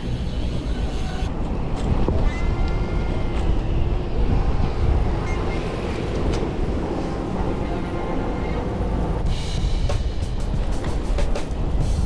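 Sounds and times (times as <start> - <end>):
traffic noise: 0.0 - 12.0
wind rumbling over microphone: 0.0 - 12.0.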